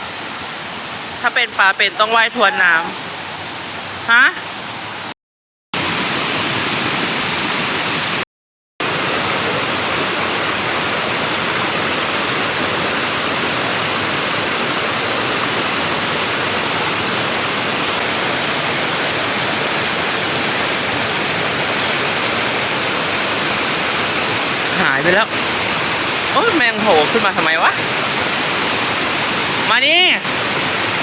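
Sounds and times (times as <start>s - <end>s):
waterfall rushing: 0.0s - 5.1s, 8.8s - 31.0s.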